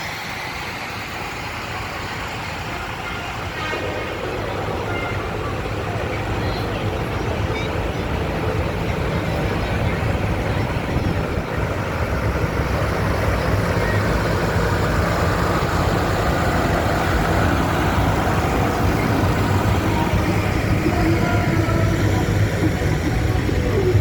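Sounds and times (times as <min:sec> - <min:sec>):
tractor engines rumbling: 0:00.0 - 0:24.0.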